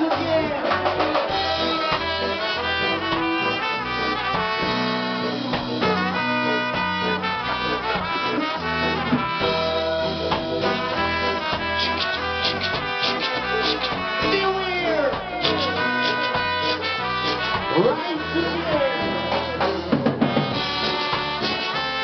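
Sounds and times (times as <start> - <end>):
reggae band bass and rhythm: 0.0 - 22.0
trombone and trumpet horn line: 0.0 - 22.0.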